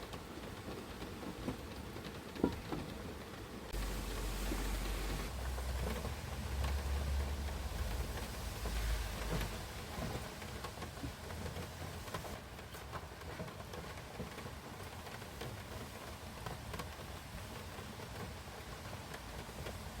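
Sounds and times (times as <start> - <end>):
rain falling steadily: 0.0 - 20.0
raindrops ticking: 0.0 - 20.0.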